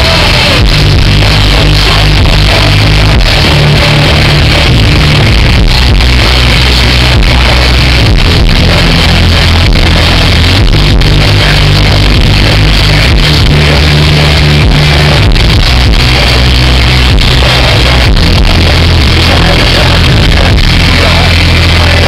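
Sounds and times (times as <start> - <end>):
bass line: 0.0 - 22.0
pop-rock band playing live: 0.0 - 22.0.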